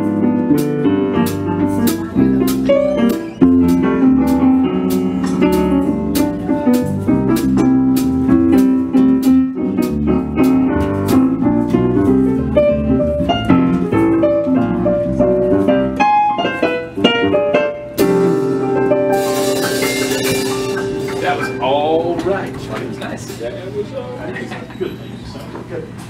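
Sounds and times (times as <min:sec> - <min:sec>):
electric bass line: 0:00.0 - 0:16.2, 0:16.8 - 0:23.0
jazz piano runs: 0:00.0 - 0:26.0.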